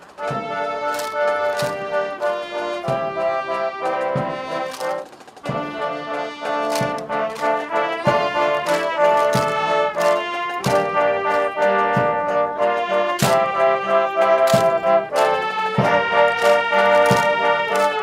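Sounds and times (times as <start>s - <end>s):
brass music over steady beat: 0.0s - 18.0s.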